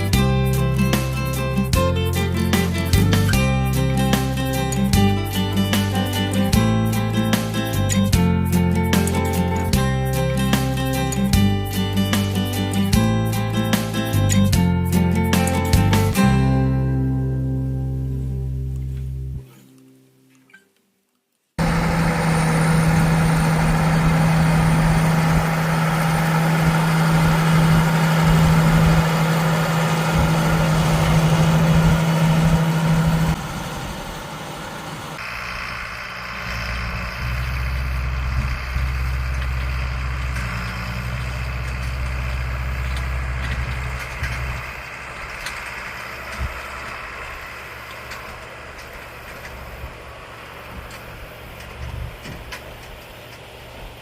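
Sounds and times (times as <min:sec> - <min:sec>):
diesel farm machinery running: 0:00.0 - 0:19.4, 0:21.6 - 0:54.0
low engine hum: 0:00.0 - 0:19.5, 0:21.6 - 0:54.0.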